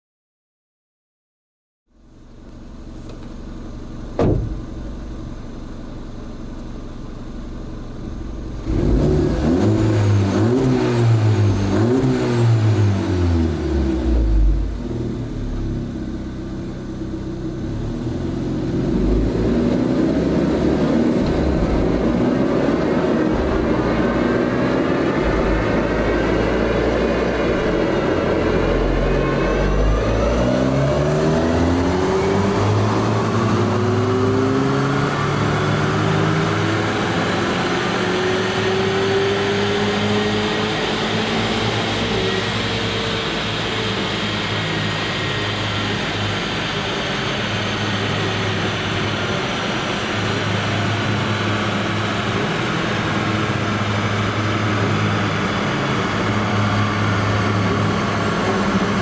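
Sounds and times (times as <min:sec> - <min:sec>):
car engine revving on a dyno: 0:08.1 - 0:59.0.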